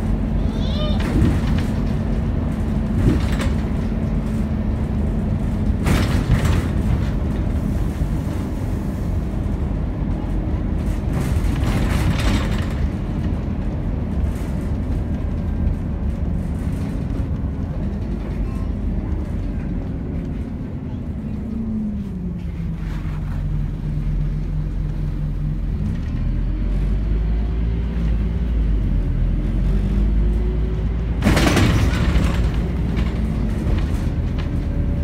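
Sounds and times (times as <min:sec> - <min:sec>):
bus diesel engine: 0:00.0 - 0:35.0
road rumble: 0:00.0 - 0:35.0.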